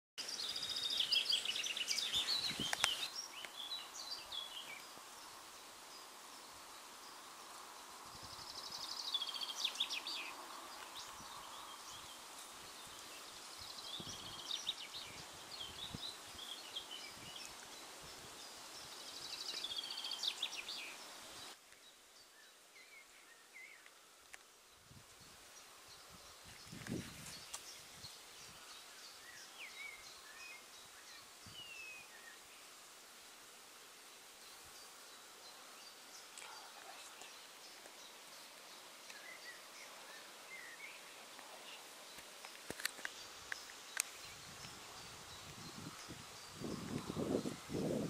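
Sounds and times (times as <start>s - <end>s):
songbird chirping: 0.2s - 33.0s, 33.7s - 48.0s
steady outdoor hiss: 0.2s - 48.0s.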